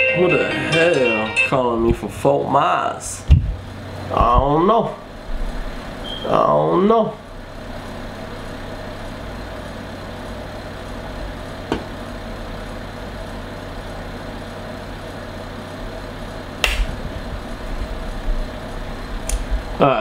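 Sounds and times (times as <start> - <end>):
room tone hum and hiss: 0.0 - 20.0.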